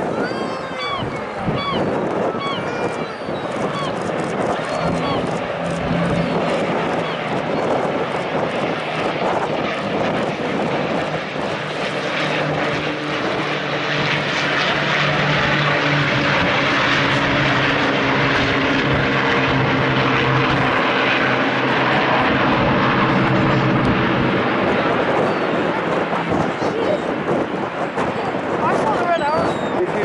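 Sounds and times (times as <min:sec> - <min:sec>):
propeller plane flying past: 0:00.0 - 0:30.0.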